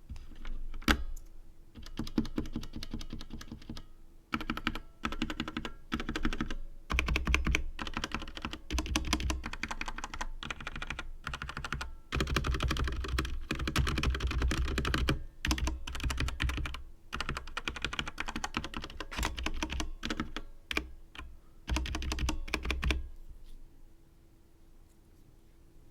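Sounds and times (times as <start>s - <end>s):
mechanical keyboard typing: 1.8s - 23.0s.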